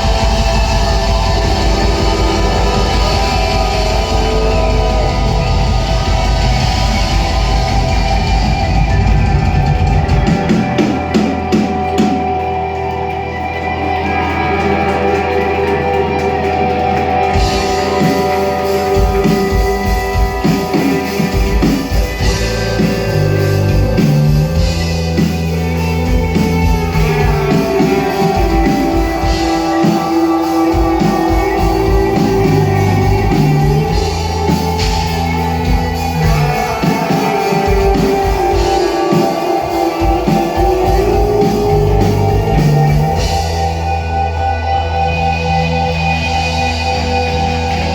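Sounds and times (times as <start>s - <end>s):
drums and cymbals: 0.0s - 13.1s, 14.8s - 47.9s
bass guitar: 0.0s - 47.9s
electric guitar: 0.0s - 47.9s.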